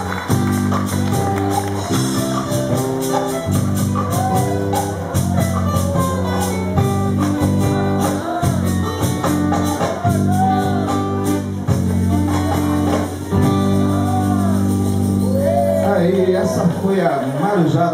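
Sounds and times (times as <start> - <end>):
acoustic guitars strumming: 0.0 - 17.9.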